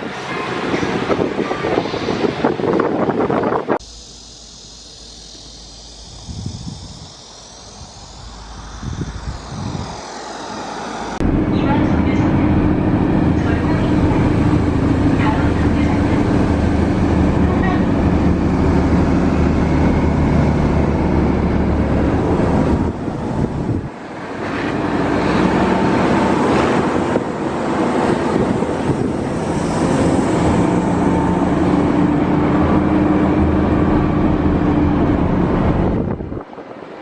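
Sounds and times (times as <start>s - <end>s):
vehicle engine with road noise: 0.0s - 37.0s.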